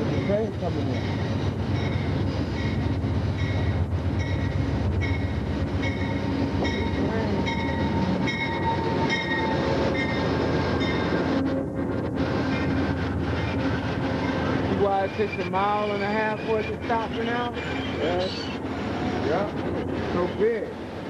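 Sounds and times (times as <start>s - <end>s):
train rumbling: 0.0s - 21.0s
train wheels squealing: 0.1s - 11.4s, 12.3s - 21.0s.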